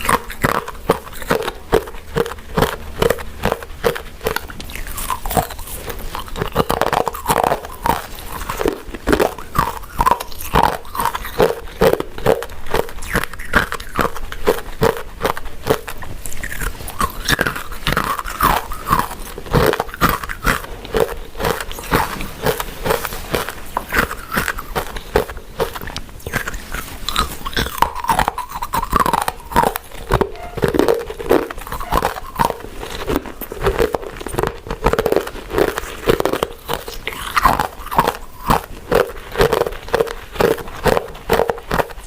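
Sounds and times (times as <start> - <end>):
chewing with wet mouth smacks: 0.0 - 42.0.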